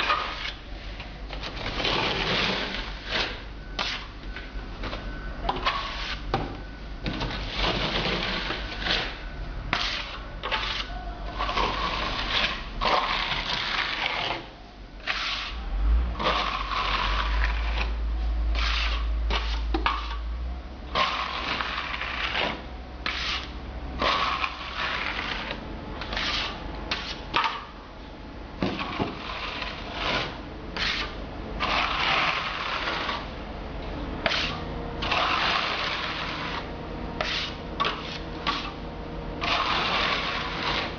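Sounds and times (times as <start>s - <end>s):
hand float rubbing gritty render: 0.0s - 4.1s, 5.5s - 6.2s, 7.3s - 20.3s, 20.9s - 27.7s, 28.8s - 33.4s, 34.2s - 38.8s, 39.4s - 40.9s.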